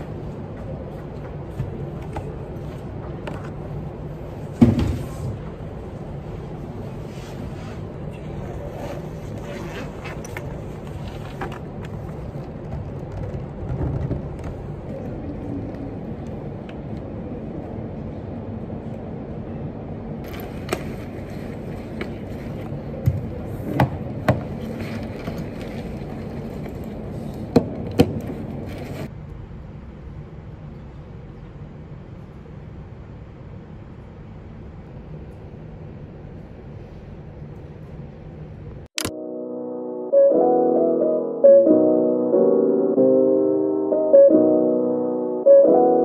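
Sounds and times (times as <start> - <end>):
room hum: 0.0 - 46.0.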